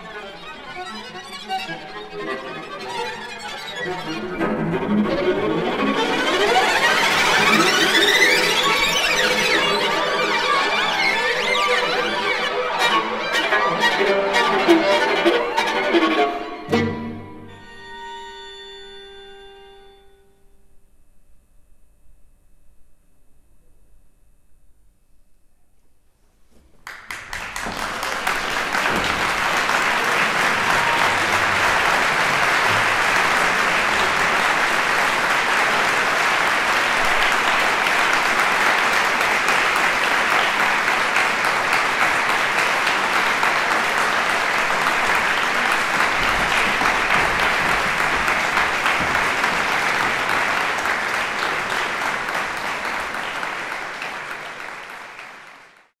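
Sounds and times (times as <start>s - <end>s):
audience applauding: 0.0s - 17.3s, 26.8s - 56.0s.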